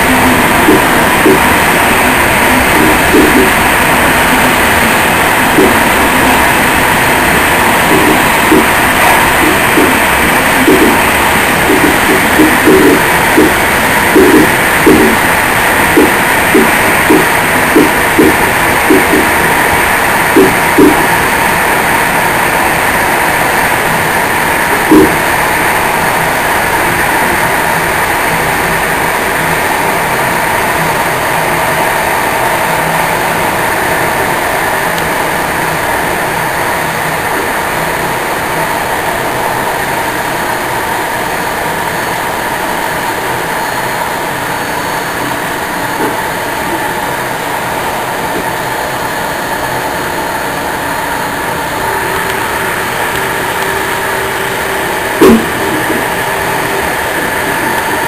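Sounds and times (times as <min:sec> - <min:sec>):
faint steady tones: 0:00.0 - 0:58.0
train wheels rolling on rails: 0:00.0 - 0:58.0.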